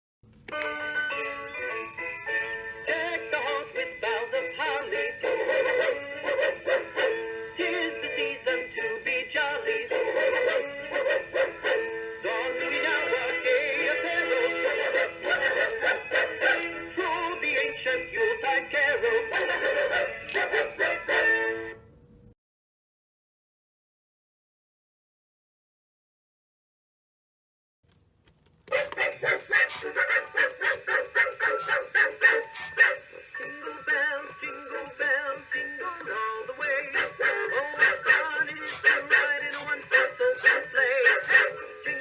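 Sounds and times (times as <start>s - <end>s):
toy playing synthetic sung tune: 0.5s - 21.8s, 28.7s - 42.0s.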